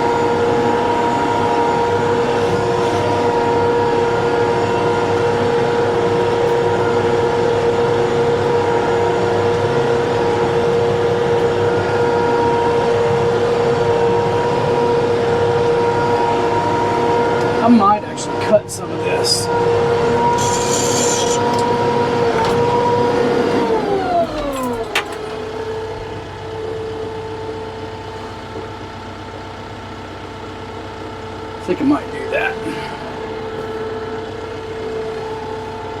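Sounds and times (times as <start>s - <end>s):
diesel tractor engine drone: 0.0s - 36.0s
steady whining tone: 0.0s - 36.0s.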